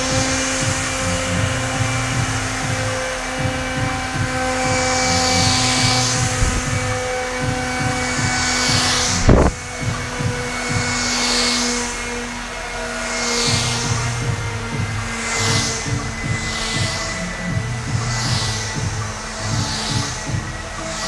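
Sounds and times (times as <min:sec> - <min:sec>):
leaf blower whining: 0:00.0 - 0:21.0.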